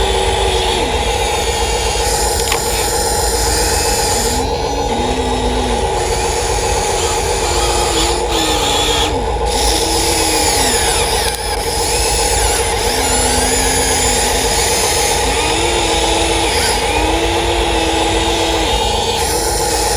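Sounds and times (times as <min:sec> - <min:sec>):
electric motor and pump whine: 0:00.0 - 0:19.9.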